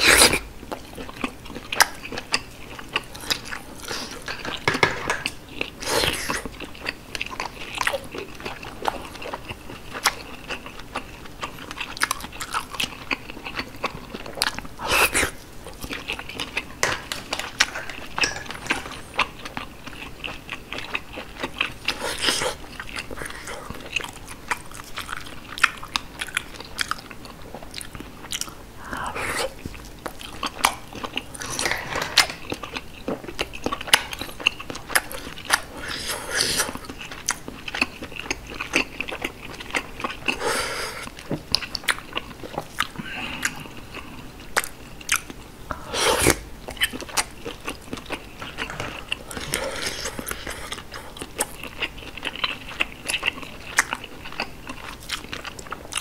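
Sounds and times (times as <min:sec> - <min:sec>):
mouth smacks and clicks chewing: 0:06.3 - 0:40.4, 0:41.0 - 0:56.0.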